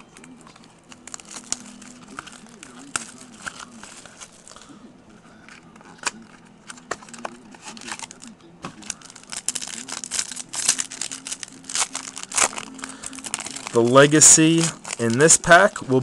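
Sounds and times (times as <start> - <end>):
faint background music: 0.0 - 16.0
plastic wrapper crinkling: 0.0 - 16.0.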